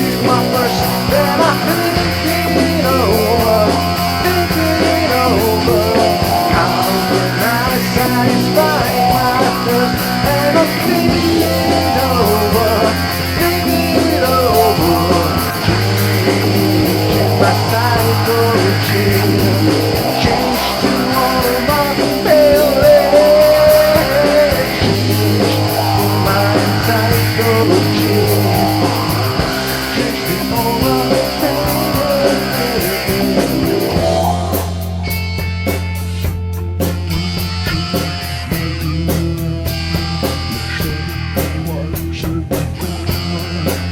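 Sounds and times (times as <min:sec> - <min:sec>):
bass guitar: 0:00.0 - 0:43.9
drums: 0:00.0 - 0:43.9
electric guitar lead: 0:00.0 - 0:43.9.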